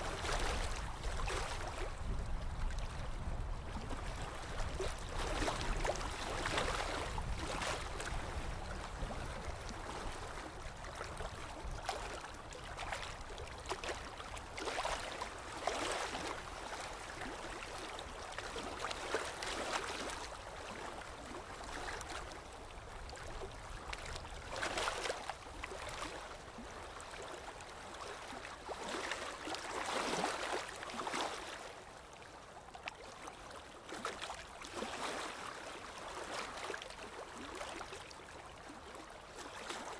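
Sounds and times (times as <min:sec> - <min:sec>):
water lapping and splashing: 0:00.0 - 0:39.9.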